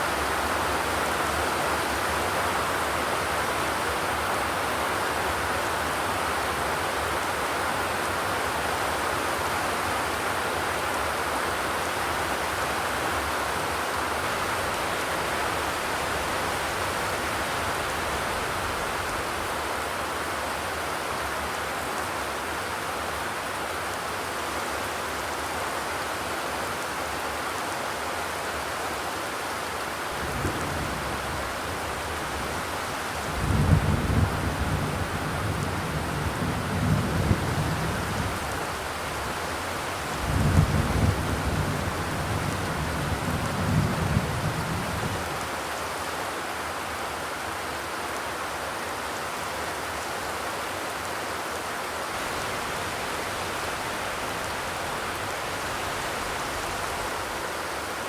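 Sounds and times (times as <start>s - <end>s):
rain on a metal roof: 0.0s - 58.0s.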